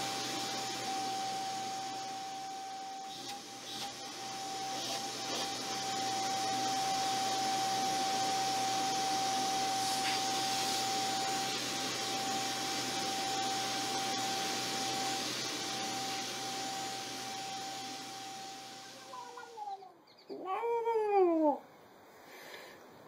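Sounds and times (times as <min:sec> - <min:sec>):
vacuum cleaner running: 0:00.0 - 0:19.8.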